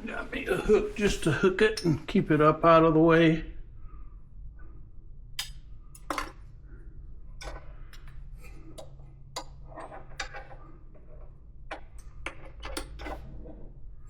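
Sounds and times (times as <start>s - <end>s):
low hum: 0.0s - 12.3s.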